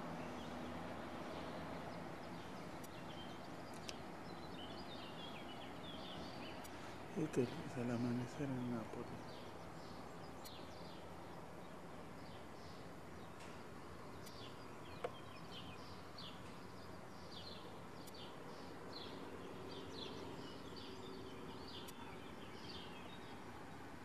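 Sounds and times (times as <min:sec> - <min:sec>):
faint background hum: 0:00.0 - 0:24.0
small birds chirping: 0:00.0 - 0:24.0.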